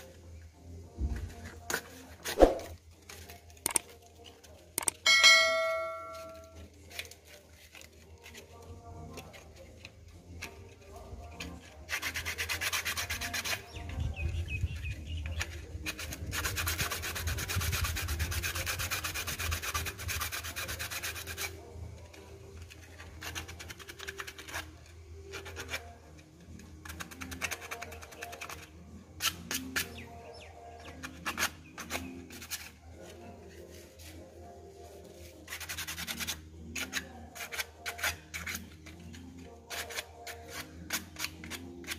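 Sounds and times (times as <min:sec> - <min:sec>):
sandpaper rubbing on pipe: 0:05.7 - 0:41.9.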